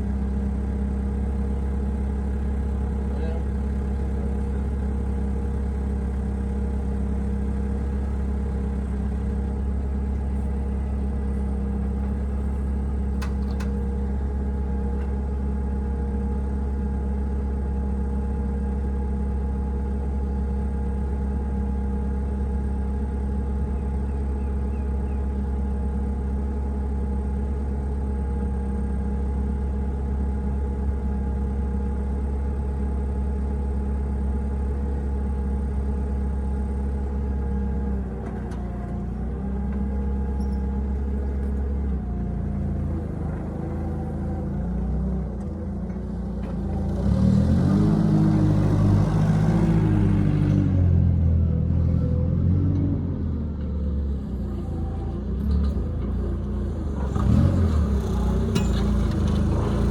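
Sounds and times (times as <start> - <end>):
engine idling: 0.0 - 52.3, 53.6 - 59.9.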